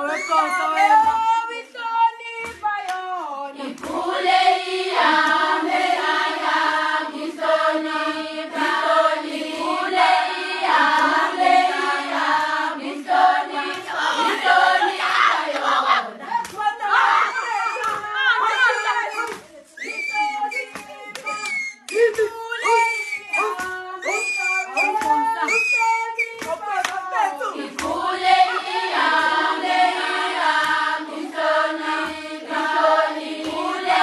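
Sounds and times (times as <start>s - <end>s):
women singing in chorus: 0.0s - 34.0s
hand claps: 0.3s - 1.5s, 2.4s - 6.5s, 9.5s - 12.7s, 13.5s - 14.4s, 15.5s - 34.0s.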